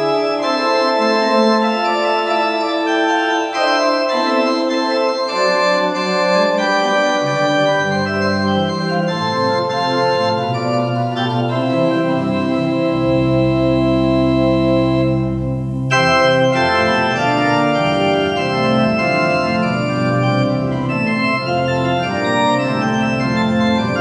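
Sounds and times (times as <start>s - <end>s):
organ playing slow chords: 0.0s - 24.0s.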